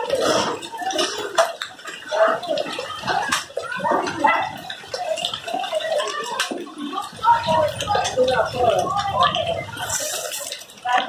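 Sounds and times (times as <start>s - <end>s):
hailstones tapping: 0.0s - 11.0s
rain and water gurgling: 0.0s - 11.0s.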